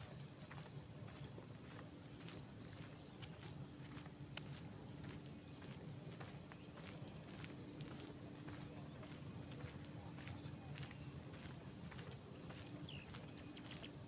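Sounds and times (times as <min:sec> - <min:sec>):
cricket chirping: 0:00.0 - 0:14.0
high-pitched insect hum: 0:00.0 - 0:14.0.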